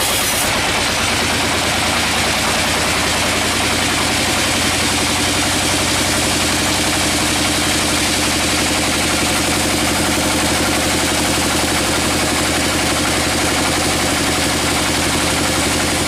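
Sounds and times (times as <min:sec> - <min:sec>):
sawmill engine pulsing: 0:00.0 - 0:16.0.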